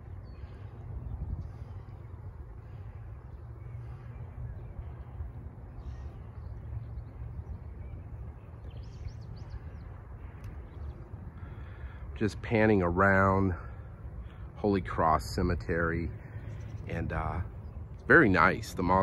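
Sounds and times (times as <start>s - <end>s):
birds calling: 0.0s - 19.0s
steady low rumble: 0.0s - 19.0s.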